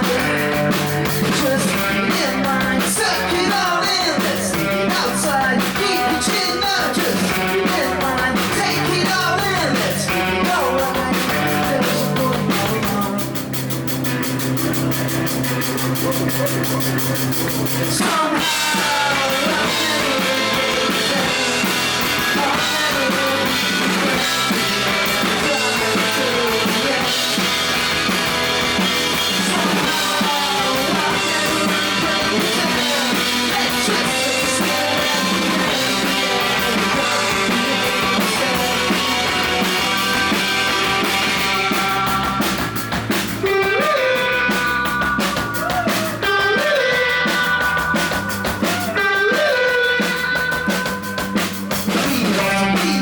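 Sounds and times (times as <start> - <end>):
person singing: 0.0 - 13.5, 15.7 - 42.4, 43.4 - 53.0
rock band playing live: 0.0 - 53.0.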